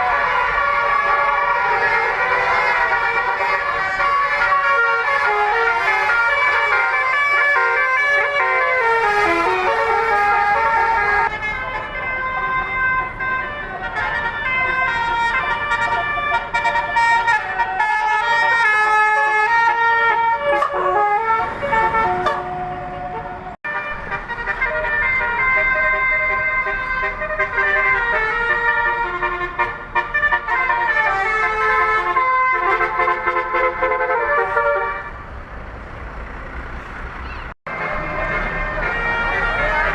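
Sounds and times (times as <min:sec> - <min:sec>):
multi-tone air horn melody: 0:00.0 - 0:35.2, 0:37.7 - 0:39.9.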